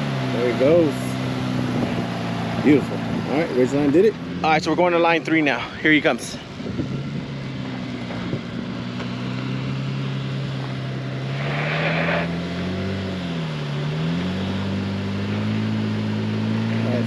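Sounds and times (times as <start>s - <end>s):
truck engine at low revs: 0.0s - 17.0s.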